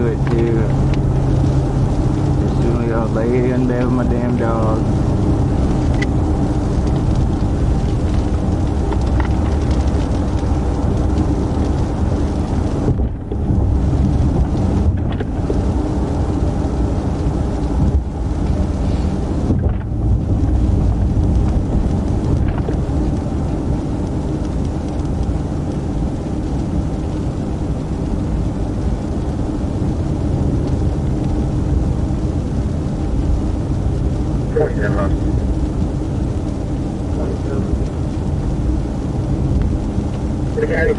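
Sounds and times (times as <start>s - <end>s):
road and engine rumble inside car: 0.0s - 40.9s.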